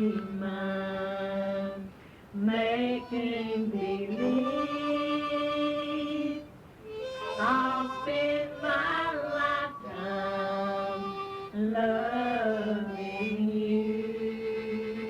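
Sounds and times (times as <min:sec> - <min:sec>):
person singing slow song: 0:00.0 - 0:15.0.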